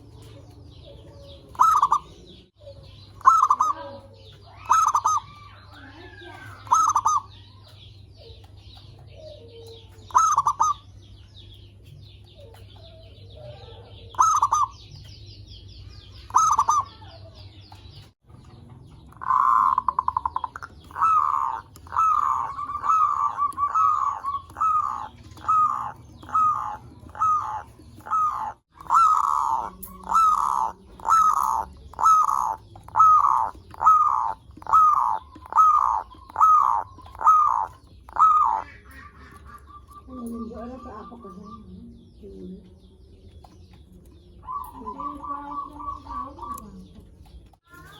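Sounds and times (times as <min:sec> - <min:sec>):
doves cooing: 0:00.0 - 0:47.9.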